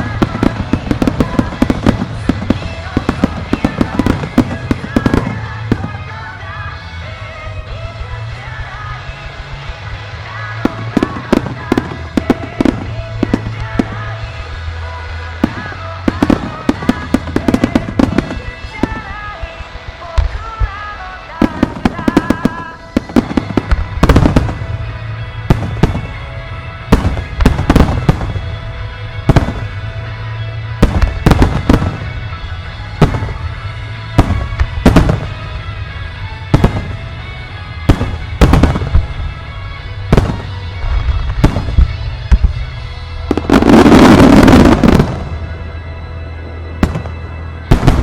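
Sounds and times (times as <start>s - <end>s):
dense fireworks barrage: 0.0s - 48.0s
fireworks bursting: 0.0s - 48.0s.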